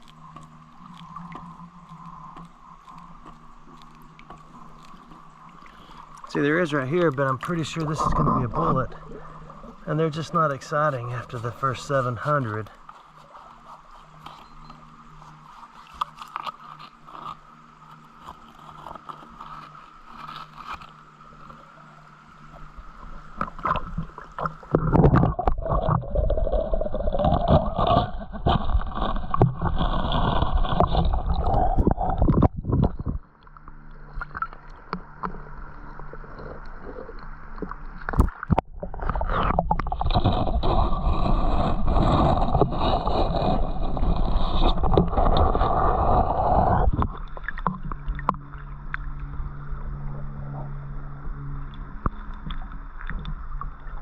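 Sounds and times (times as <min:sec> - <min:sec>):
scraping in creek bed: 0:00.0 - 0:33.4, 0:34.0 - 0:49.1
creek water sloshing and gurgling: 0:00.0 - 0:50.7.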